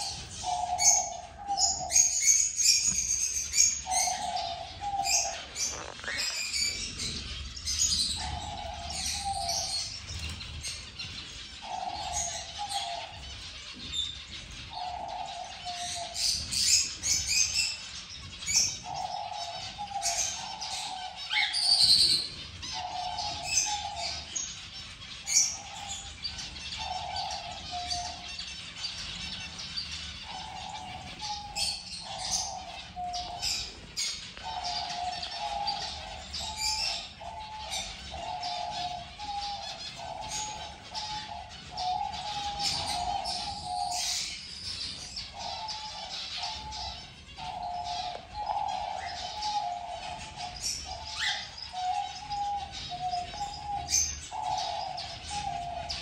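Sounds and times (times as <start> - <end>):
finches chirping: 0.0 - 56.0
pigeon cooing: 0.0 - 56.0.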